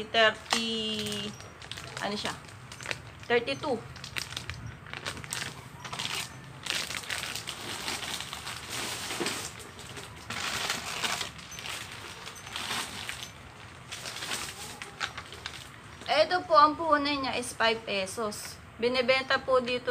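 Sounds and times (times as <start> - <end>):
plastic wrappers crinkling: 0.0 - 16.2.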